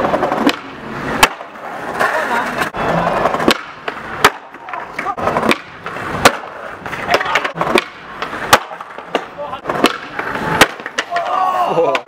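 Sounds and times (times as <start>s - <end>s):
skateboard clacks: 0.0s - 12.0s
skateboard wheels rolling on stone: 0.0s - 12.0s.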